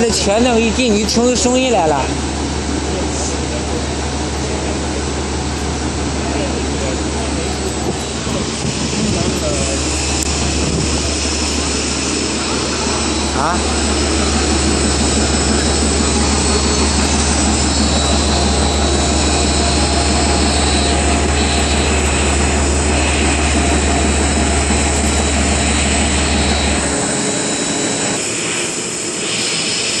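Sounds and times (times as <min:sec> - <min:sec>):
machine milling steel: 0:00.0 - 0:30.0
deep hum: 0:01.9 - 0:29.1.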